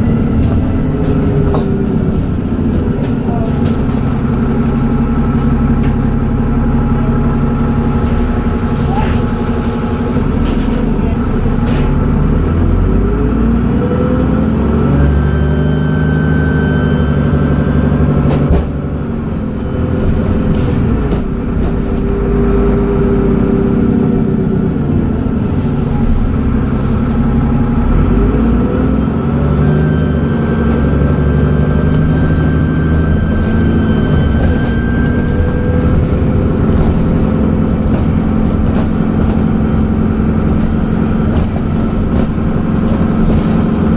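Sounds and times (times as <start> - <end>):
bus engine pulling away: 0.0 - 43.9.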